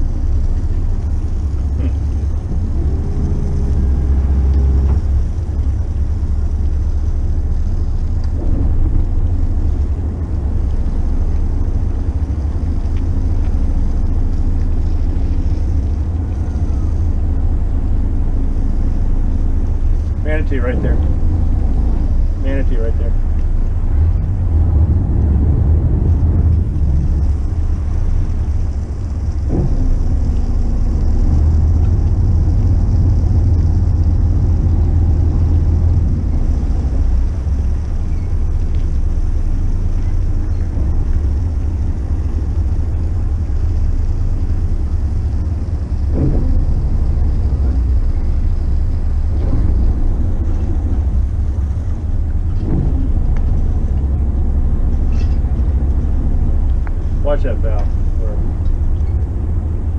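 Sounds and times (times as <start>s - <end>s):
boat engine drone: 0.0s - 59.9s
wind buffeting microphone: 0.0s - 59.9s.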